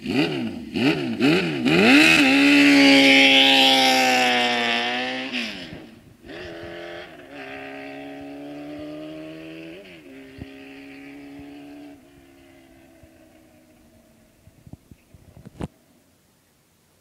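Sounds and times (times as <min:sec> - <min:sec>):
motorcycle engine accelerating: 0:00.0 - 0:15.7.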